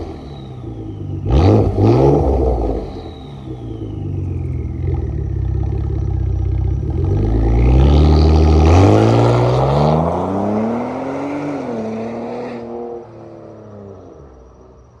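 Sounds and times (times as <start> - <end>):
car accelerating away: 0.0 - 14.9.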